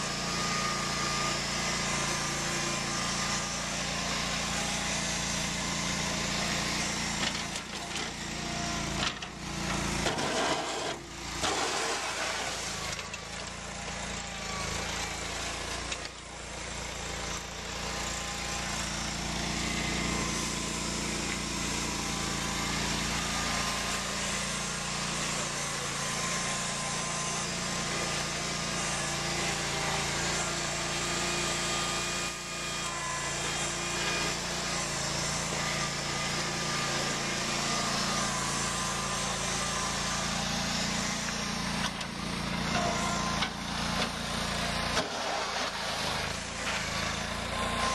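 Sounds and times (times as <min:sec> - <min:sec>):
small tractor engine running: 0:00.0 - 0:47.9.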